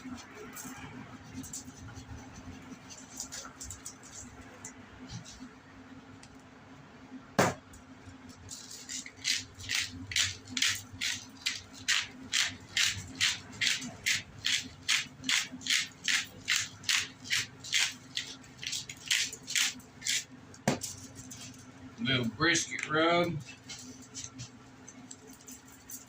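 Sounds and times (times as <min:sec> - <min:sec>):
seasoning shaker rattling: 0:00.0 - 0:05.4, 0:08.4 - 0:21.7, 0:23.5 - 0:26.0.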